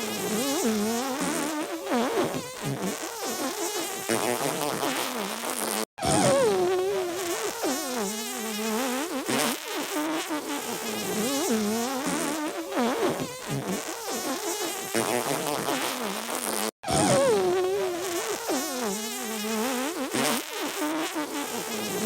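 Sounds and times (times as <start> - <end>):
cartoon fart sound effects: 0.0 - 22.0.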